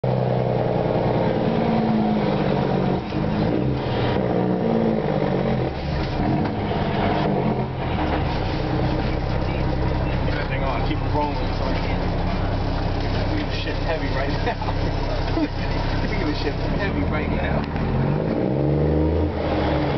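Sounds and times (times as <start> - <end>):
diesel truck engine under load: 0.0 - 19.9.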